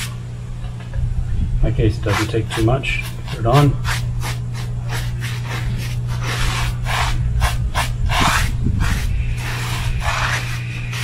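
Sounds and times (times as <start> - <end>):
steady low hum: 0.0 - 11.0
paintbrush scrubbing concrete: 1.7 - 11.0.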